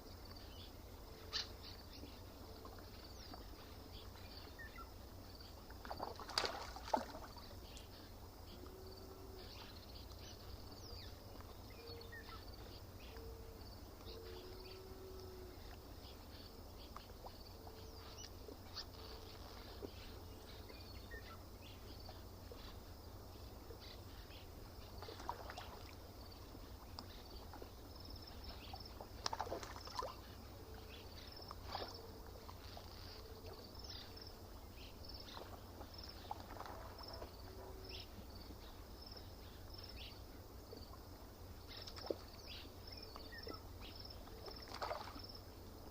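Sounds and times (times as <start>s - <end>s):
high insect hum: 0.0s - 45.9s
water lapping at shore: 0.6s - 13.2s, 14.4s - 45.9s.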